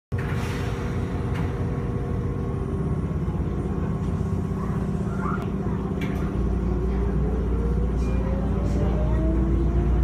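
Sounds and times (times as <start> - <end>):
train wheels rumbling on track: 0.1 - 10.0.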